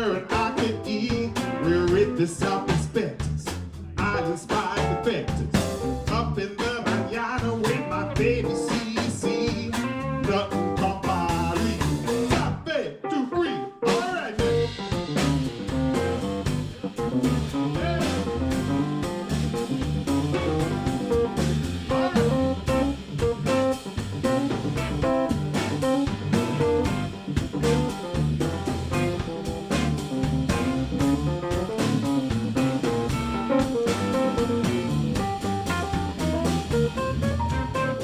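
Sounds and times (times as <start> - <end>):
live blues band playing: 0.0 - 12.6, 13.3 - 38.0.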